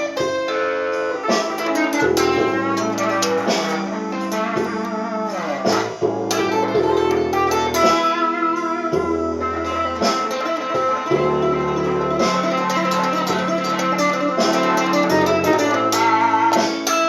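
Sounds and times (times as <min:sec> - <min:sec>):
blues guitar: 0:00.0 - 0:17.0.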